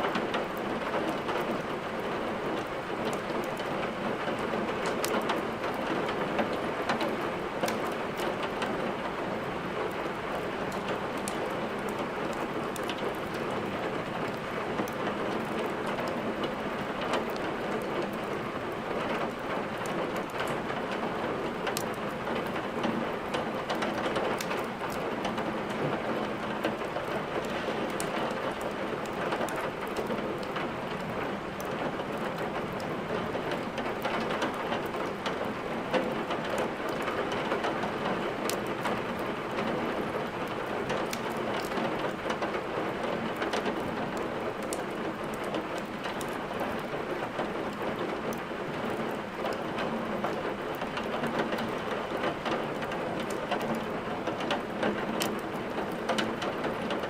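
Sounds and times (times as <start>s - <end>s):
steady rain: 0.0s - 57.0s
wood fire crackling: 4.8s - 8.6s, 9.9s - 21.0s, 23.4s - 37.1s, 38.4s - 42.6s, 43.3s - 57.0s.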